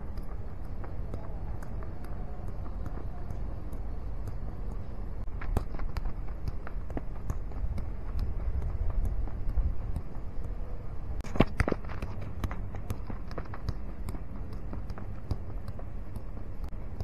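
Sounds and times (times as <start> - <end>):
ball taps and footsteps on dirt: 0.0 - 17.0.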